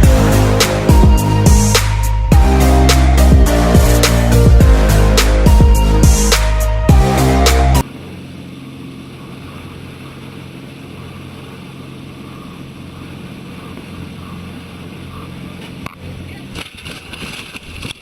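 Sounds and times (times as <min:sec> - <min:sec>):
vehicle engine running: 0:00.0 - 0:17.6.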